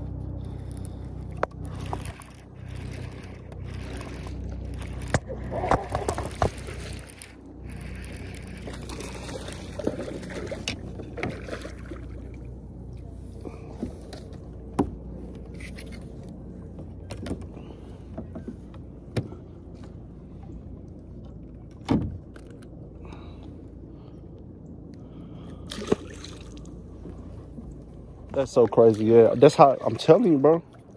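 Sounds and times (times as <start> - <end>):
low rumble: 0.0 - 29.5.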